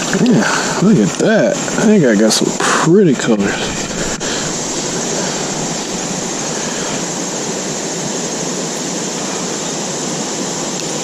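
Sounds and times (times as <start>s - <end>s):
river water rushing: 0.0s - 10.8s.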